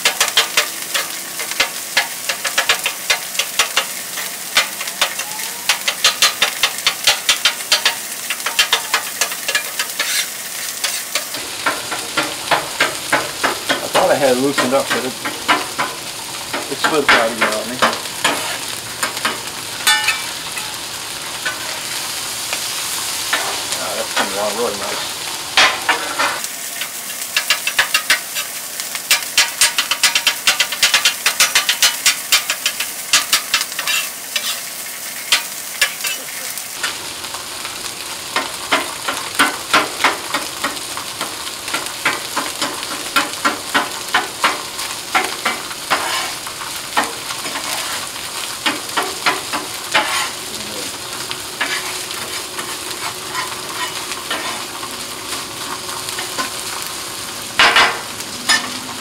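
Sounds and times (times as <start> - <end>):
metal spatula scraping griddle: 0.0 - 16.0, 16.6 - 22.0, 23.3 - 37.0, 41.8 - 50.6, 51.6 - 54.9, 57.6 - 59.0
food sizzling on griddle: 0.0 - 59.0.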